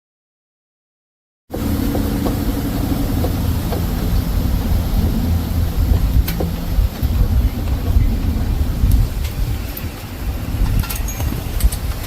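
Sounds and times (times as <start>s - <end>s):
riding mower engine rumble: 1.5s - 12.0s.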